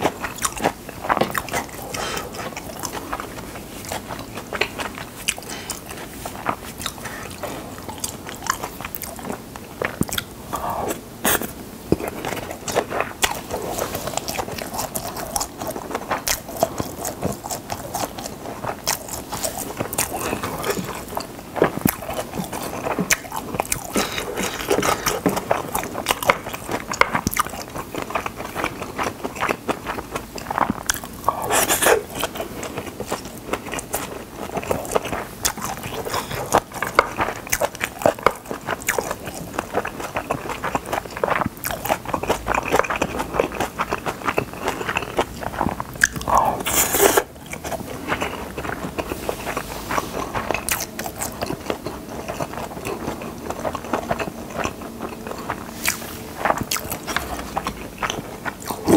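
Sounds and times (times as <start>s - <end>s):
close chewing and mouth sounds: 0.0s - 58.9s.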